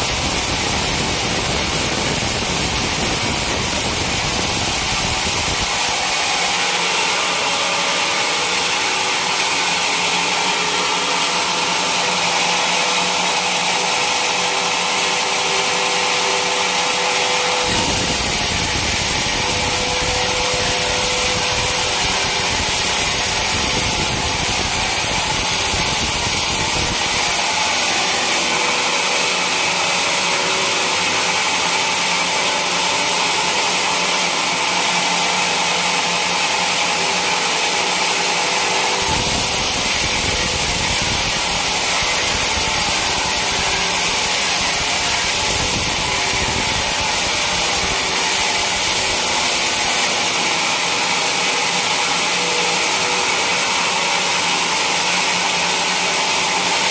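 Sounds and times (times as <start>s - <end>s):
sawmill saw cutting log: 0.0s - 56.9s.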